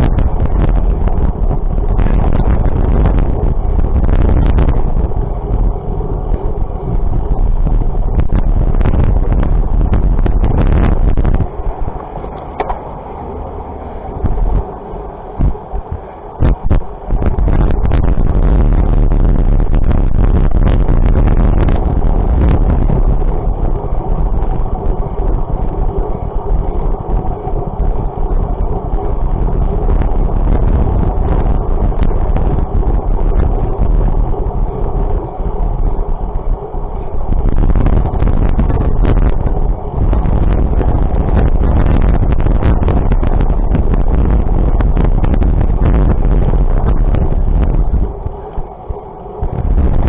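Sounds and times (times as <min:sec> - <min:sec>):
vehicle running on road: 0:00.0 - 0:50.0
wind rumble on microphone: 0:00.0 - 0:50.0.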